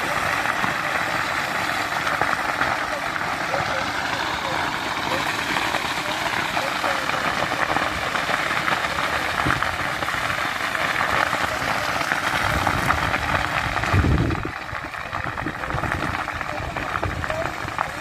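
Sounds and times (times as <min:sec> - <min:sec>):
fire crackling: 0:00.0 - 0:18.0.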